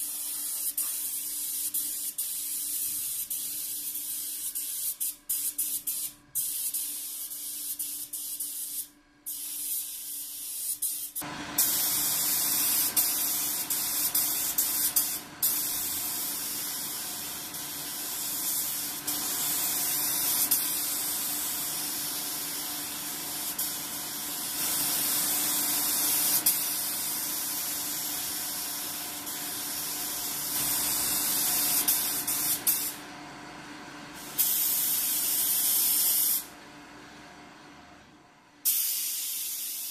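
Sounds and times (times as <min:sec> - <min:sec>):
spray gun hissing: 0:00.0 - 0:33.0, 0:34.2 - 0:36.5, 0:38.6 - 0:39.9.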